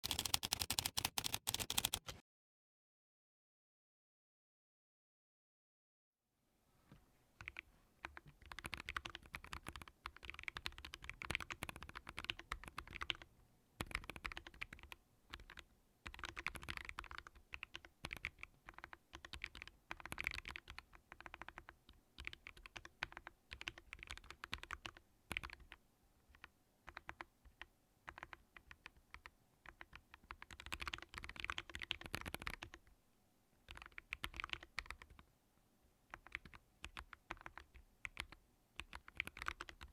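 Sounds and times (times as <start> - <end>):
mechanical keyboard typing: 0.0 - 2.2, 7.4 - 32.8, 33.7 - 35.2, 36.1 - 39.9.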